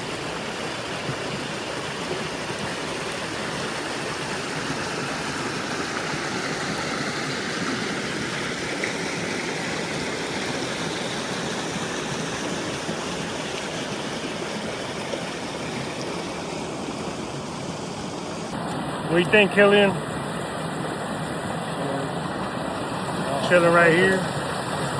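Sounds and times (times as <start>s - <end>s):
water rushing over waterfall: 0.0s - 24.9s.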